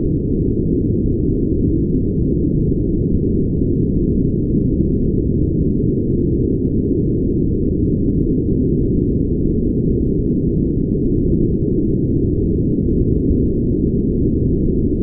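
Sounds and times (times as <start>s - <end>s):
deep muffled brown noise: 0.0s - 15.0s.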